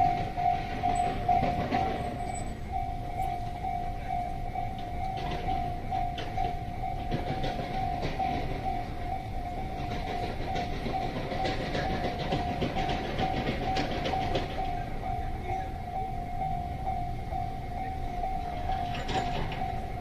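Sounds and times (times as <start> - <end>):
freight train rumbling: 0.0 - 20.0
railroad crossing bell ringing: 0.0 - 20.0
train wheels clicking over rail joints: 0.0 - 20.0.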